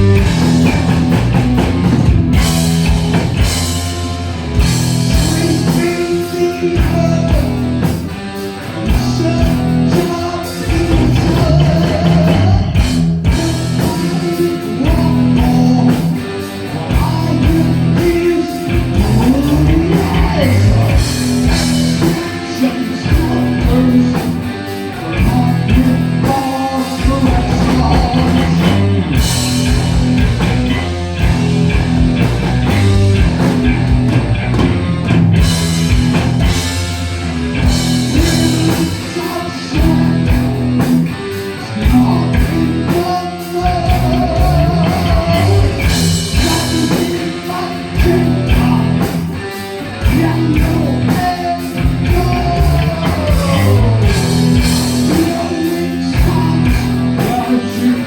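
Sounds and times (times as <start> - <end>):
heavy metal band playing: 0.0 - 58.0
person singing: 3.9 - 29.6, 36.5 - 58.0.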